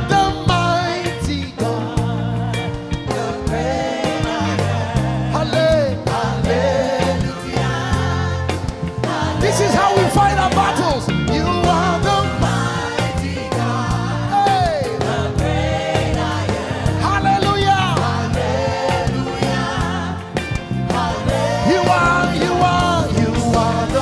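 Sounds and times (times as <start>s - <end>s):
bass: 0.0s - 24.0s
drums: 0.0s - 24.0s
keyboard chords: 0.0s - 24.0s.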